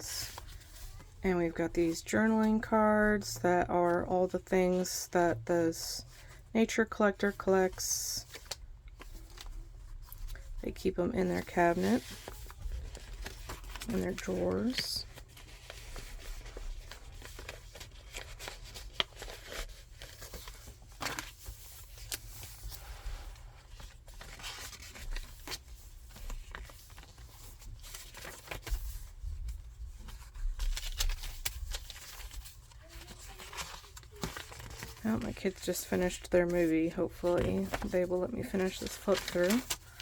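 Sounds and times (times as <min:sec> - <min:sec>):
paper rustling and crinkling: 0:00.0 - 0:02.8, 0:07.3 - 0:40.0.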